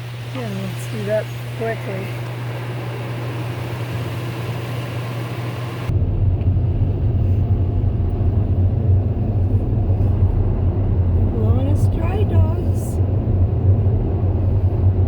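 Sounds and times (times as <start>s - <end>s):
car wash dryer blowers: 0.0s - 15.0s.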